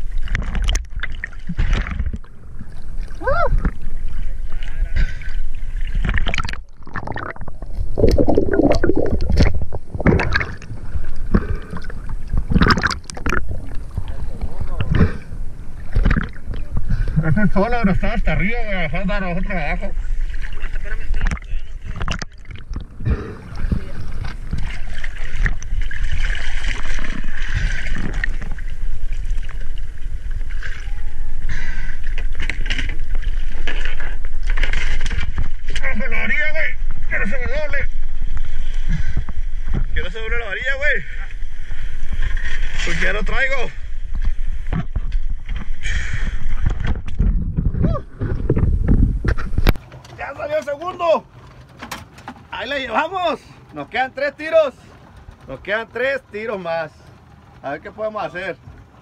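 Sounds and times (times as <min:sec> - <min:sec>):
seawater sloshing and splashing: 0:00.0 - 0:17.9, 0:19.2 - 0:36.2, 0:41.0 - 0:59.0.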